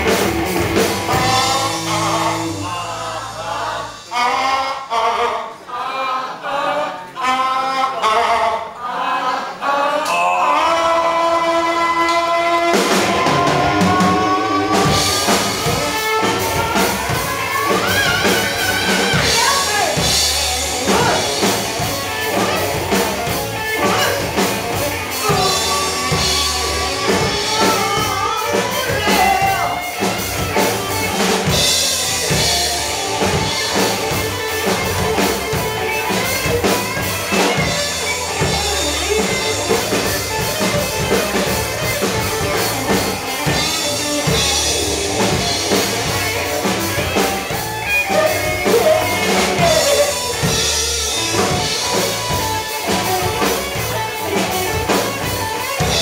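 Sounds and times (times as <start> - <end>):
electric guitar and bass: 0.0 - 4.2, 10.1 - 56.0
drum kit beat: 0.0 - 4.8, 10.6 - 56.0
gliding lead guitar notes: 10.1 - 56.0.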